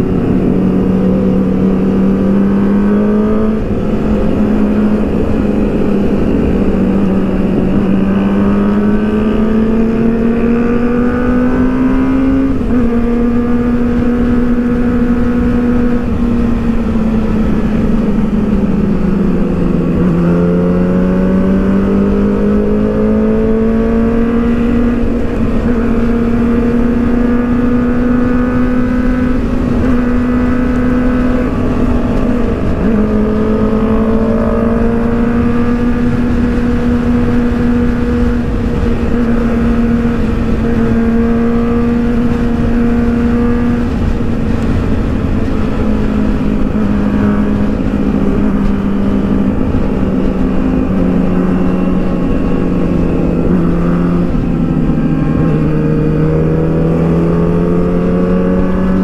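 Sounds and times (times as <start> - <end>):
motorcycle engine cruising: 0.0 - 59.0
wind rush on microphone: 0.0 - 59.0.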